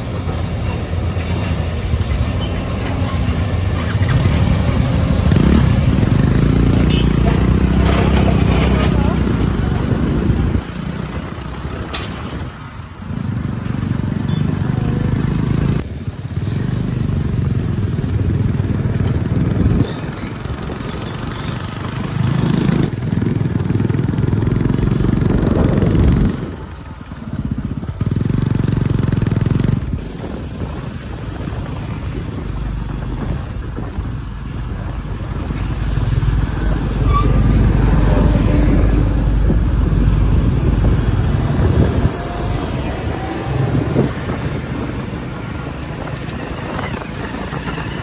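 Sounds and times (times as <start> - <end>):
backhoe diesel engines working: 0.0 - 48.0.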